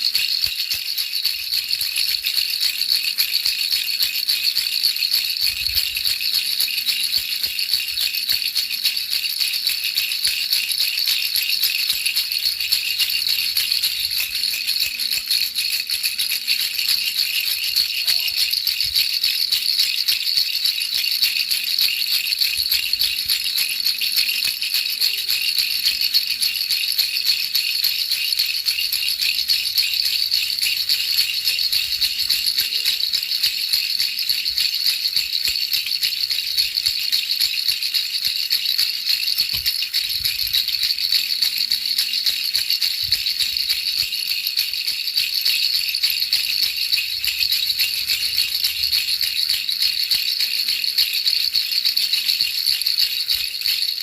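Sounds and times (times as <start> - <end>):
baby rattle shaken: 0.0 - 54.0.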